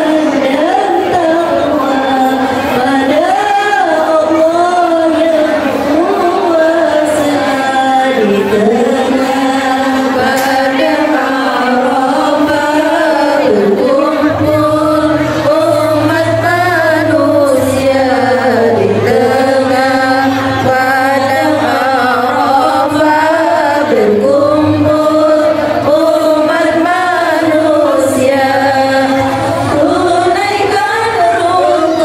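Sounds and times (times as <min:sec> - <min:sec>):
voices chanting: 0:00.0 - 0:32.0.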